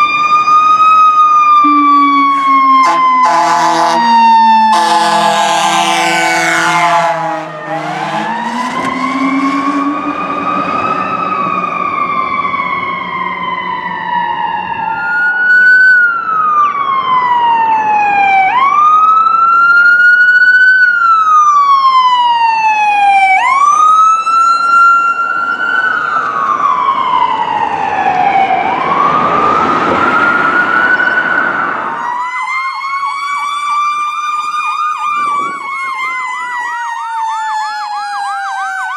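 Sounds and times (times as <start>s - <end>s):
rapid yelp siren: 0.0s - 38.9s
wail siren: 0.0s - 38.9s.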